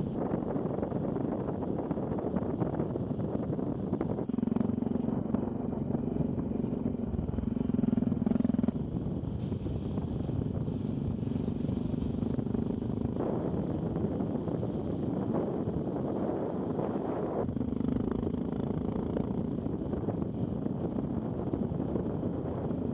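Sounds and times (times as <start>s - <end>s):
motorcycle engine running: 0.0s - 22.9s
wind on microphone: 0.0s - 22.9s.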